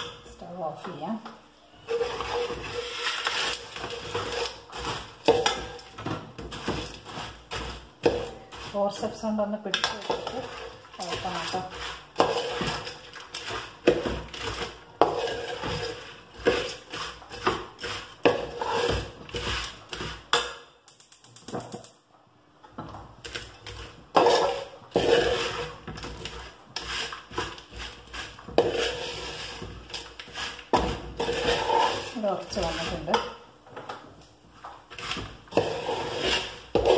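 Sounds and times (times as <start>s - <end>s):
metal spatula scraping a pan: 1.7s - 20.5s, 23.2s - 33.4s, 34.8s - 36.9s.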